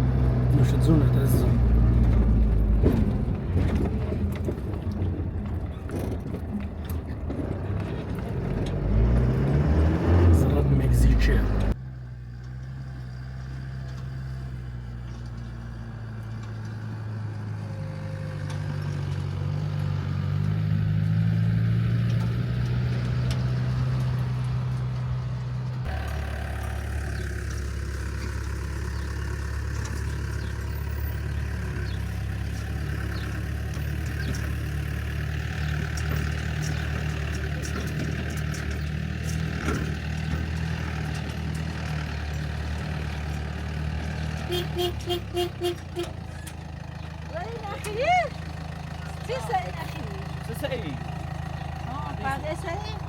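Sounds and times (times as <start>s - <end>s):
vehicle engine humming: 0.0s - 53.0s.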